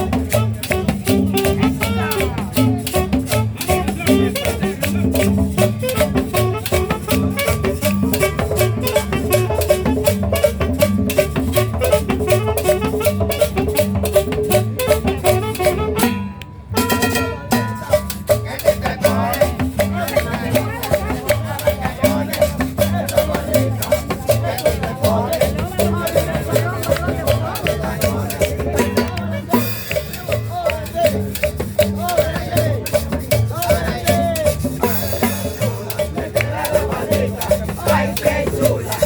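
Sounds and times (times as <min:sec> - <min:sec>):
salsa dance music: 0:00.0 - 0:39.0.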